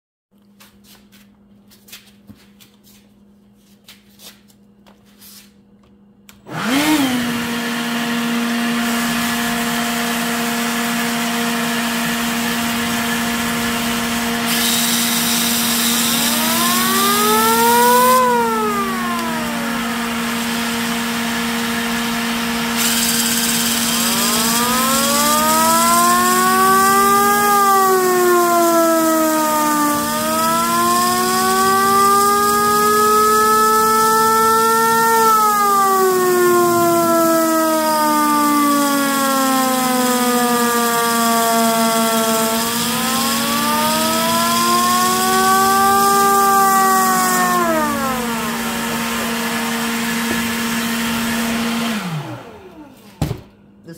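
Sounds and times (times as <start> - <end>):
leaf blower whine: 6.3 - 53.5
siren wailing: 6.5 - 53.0.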